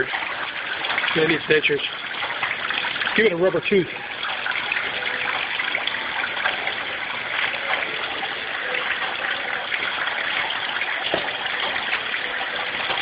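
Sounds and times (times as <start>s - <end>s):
water fountains trickling: 0.0s - 13.0s.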